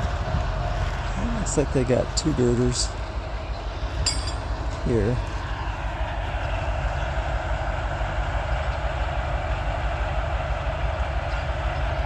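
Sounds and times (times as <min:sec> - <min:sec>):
heavy diesel machinery rumbling: 0:00.0 - 0:12.0.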